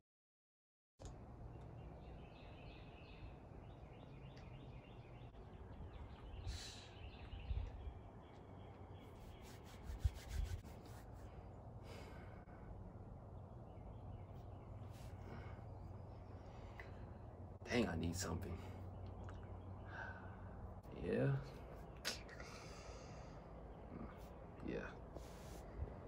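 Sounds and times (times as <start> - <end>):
small birds chirping: 1.0 - 26.0.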